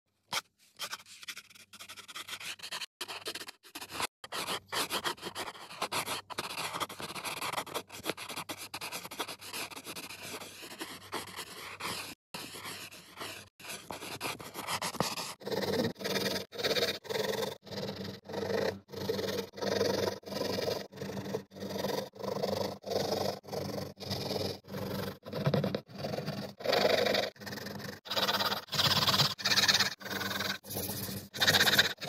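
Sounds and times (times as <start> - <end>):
pencil scratching on paper: 0.3 - 32.0.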